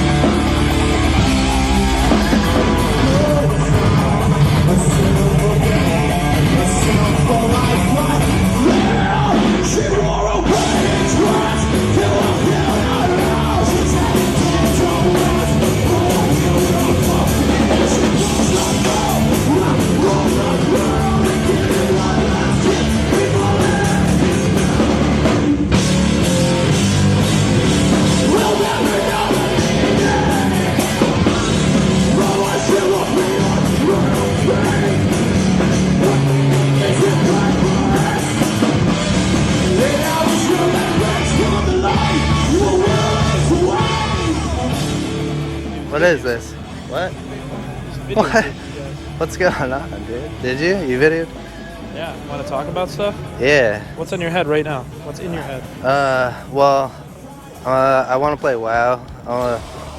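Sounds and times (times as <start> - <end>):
heavy rock music: 0.0 - 58.0, 59.0 - 59.9
yelled vocals: 0.0 - 59.9.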